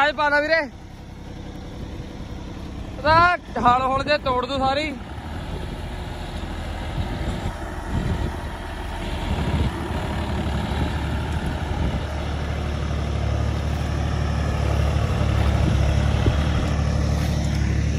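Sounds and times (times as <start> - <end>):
diesel tractor engine under load: 0.0 - 17.9.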